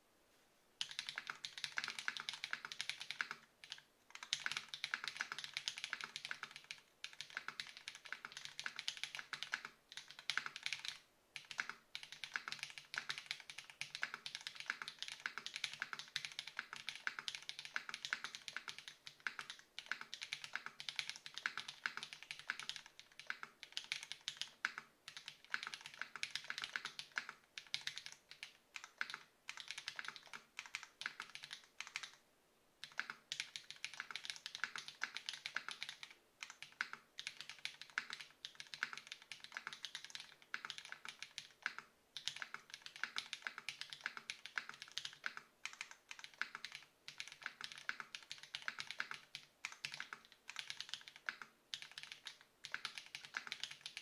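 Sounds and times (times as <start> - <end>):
fast mechanical keyboard typing: 0.8 - 32.2, 32.8 - 54.0.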